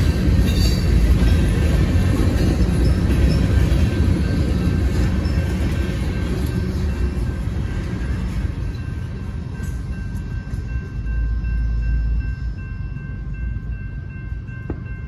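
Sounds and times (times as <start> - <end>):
crossing warning bell ringing: 0.0 - 15.0
train wheels rumbling on rails: 0.0 - 15.0.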